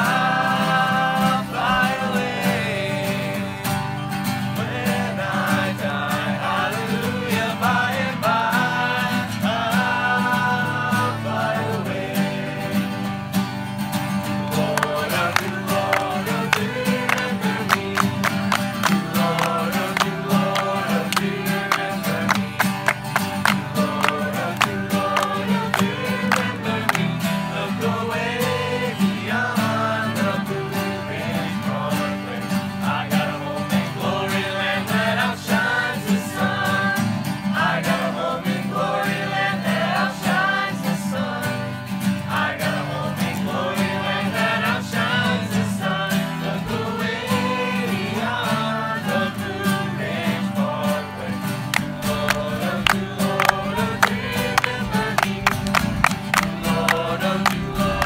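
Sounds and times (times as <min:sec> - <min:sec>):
group of voices singing: 0:00.0 - 0:13.2, 0:14.1 - 0:58.0
strummed acoustic guitars: 0:00.0 - 0:58.0.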